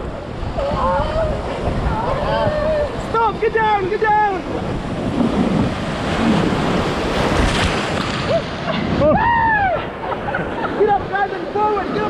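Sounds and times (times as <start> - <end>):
river water rushing and splashing: 0.0 - 12.0
wind buffeting microphone: 0.0 - 12.0.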